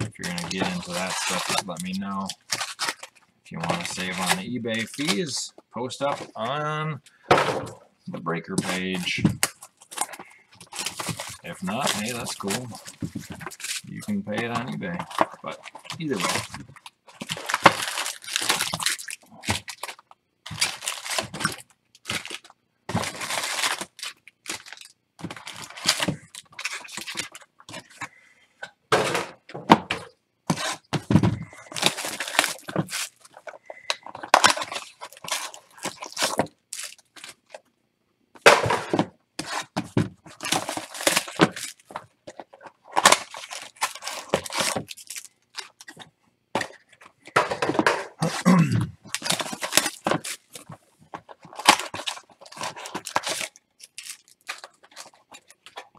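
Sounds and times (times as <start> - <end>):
cardboard and wrapping tearing: 0.0 - 5.4, 8.6 - 28.0, 30.5 - 37.6, 39.4 - 46.0, 48.1 - 55.9
rustling of packaging: 0.0 - 6.8, 7.6 - 37.7, 38.4 - 55.9
card packs knocking: 0.0 - 37.5, 38.4 - 55.9.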